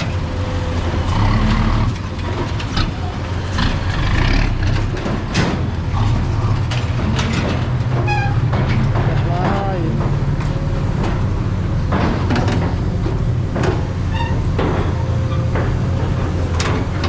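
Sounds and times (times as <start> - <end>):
diesel truck engine running: 0.0 - 17.0
mechanical clanks and rattles: 0.0 - 17.0.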